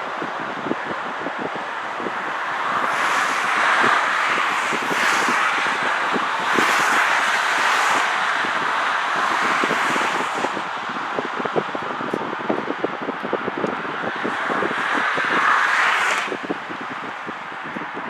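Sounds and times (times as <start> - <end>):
vehicles passing at speed: 0.0 - 18.0
wind buffeting microphone: 0.0 - 18.0.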